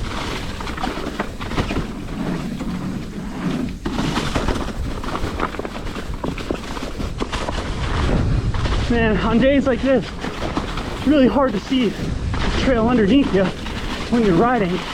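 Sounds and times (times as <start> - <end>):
bike rattling and knocking: 0.0 - 14.9
steady rushing noise: 0.0 - 14.9
tyres rolling over leaves and dirt: 0.0 - 14.9.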